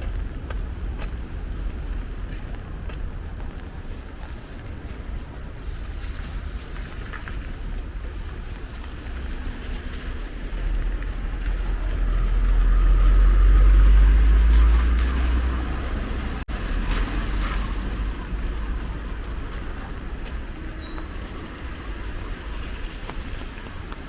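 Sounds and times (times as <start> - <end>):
steady traffic noise: 0.0 - 24.0
vehicle passing on wet street: 0.0 - 24.0.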